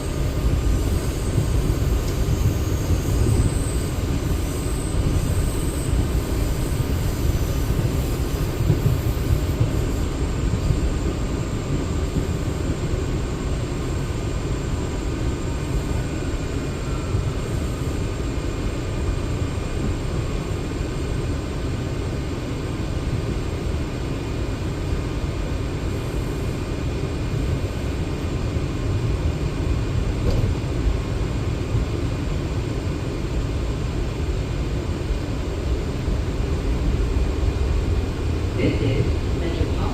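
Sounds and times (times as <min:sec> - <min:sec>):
faint steady whine: 0:00.0 - 0:39.9
train wheels rumbling on track: 0:00.0 - 0:39.9.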